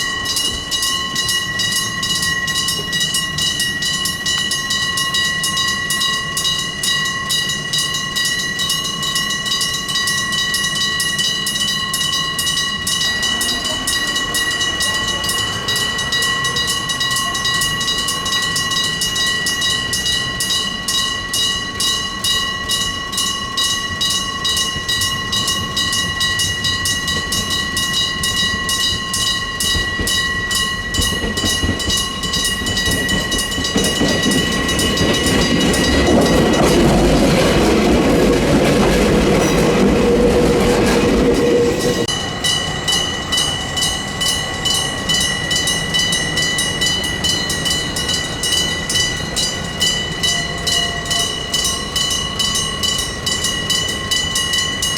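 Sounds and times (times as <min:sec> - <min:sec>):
level crossing bell ringing: 0:00.0 - 0:54.9
train passing with rumble: 0:00.0 - 0:54.9.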